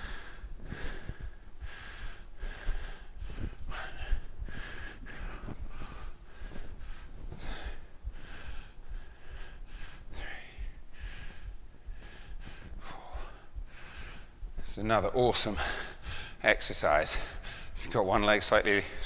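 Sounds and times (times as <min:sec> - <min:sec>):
man breathing hard: 0:00.0 - 0:18.0.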